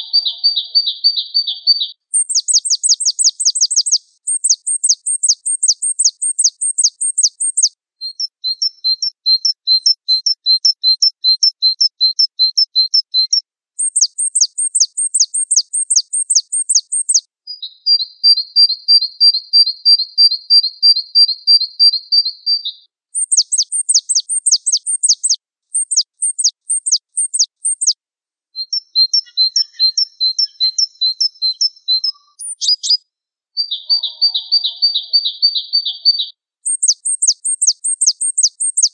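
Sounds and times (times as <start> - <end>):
bird song of high clipped notes: 0.0 - 28.0, 28.6 - 38.9.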